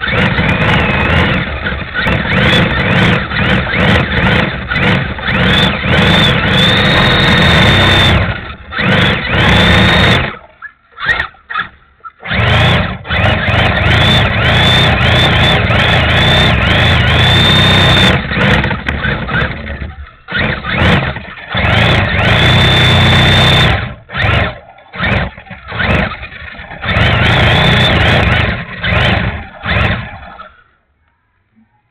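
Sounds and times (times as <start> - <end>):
rc car motor whining: 0.0 - 30.8.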